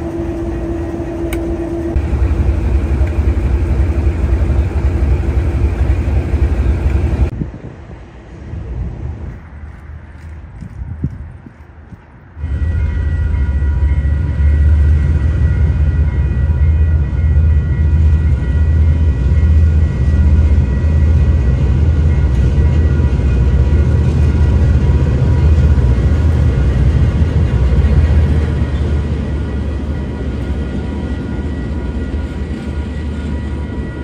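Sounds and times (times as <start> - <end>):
locomotive engine rumble: 0.0 - 34.0.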